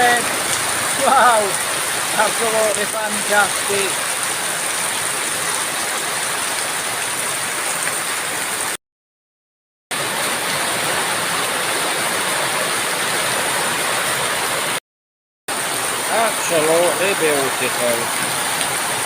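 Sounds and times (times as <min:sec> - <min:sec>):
heavy rain falling: 0:00.0 - 0:08.8, 0:09.9 - 0:14.8, 0:15.5 - 0:19.0.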